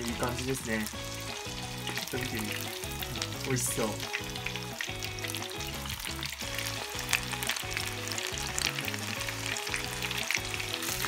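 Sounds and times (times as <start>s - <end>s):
background music: 0.0s - 11.0s
chicken deep-frying in oil: 0.0s - 11.0s.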